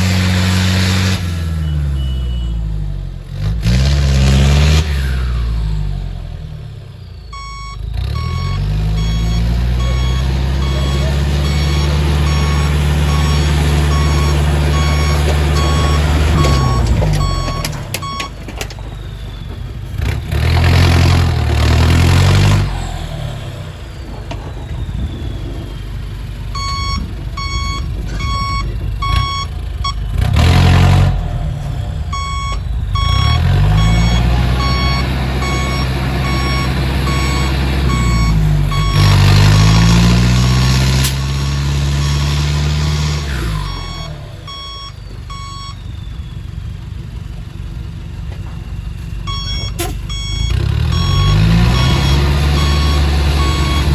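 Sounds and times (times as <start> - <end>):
truck diesel engine revving: 0.0 - 53.9
reversing alarm beeping: 0.1 - 3.2, 4.3 - 53.9.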